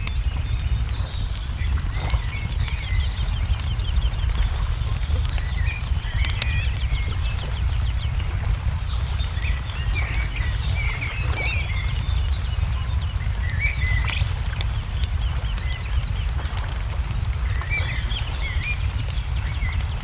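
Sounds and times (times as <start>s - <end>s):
small birds chirping: 0.0s - 20.0s
steady low rumble: 0.0s - 20.0s
wood fire crackling: 0.0s - 20.0s.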